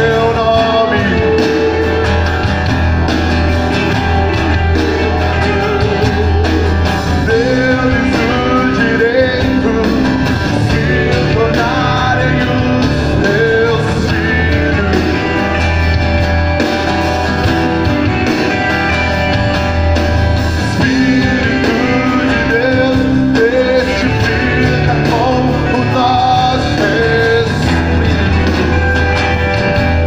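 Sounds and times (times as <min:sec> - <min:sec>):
strong steady bass: 0:00.0 - 0:30.0
voices singing: 0:00.0 - 0:30.0
worship band playing: 0:00.0 - 0:30.0.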